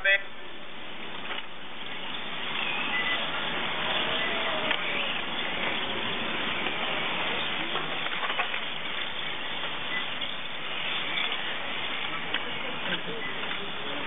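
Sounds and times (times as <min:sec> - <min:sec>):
steady hiss: 0:00.0 - 0:14.0
rc car motor whines: 0:02.5 - 0:14.0.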